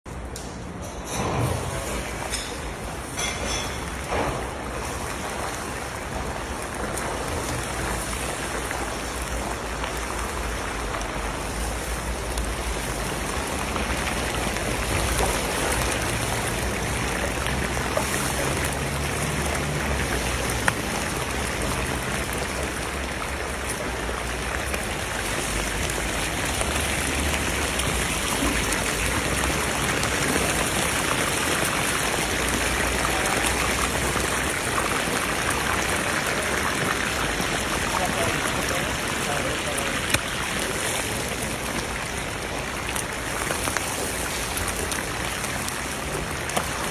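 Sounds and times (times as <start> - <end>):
meat sizzling in hot oil: 2.0 - 46.9.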